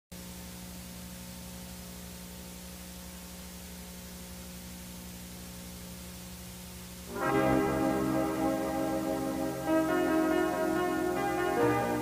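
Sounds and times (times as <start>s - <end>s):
low electrical hum: 0.2s - 12.0s
videotape hiss: 0.2s - 12.0s.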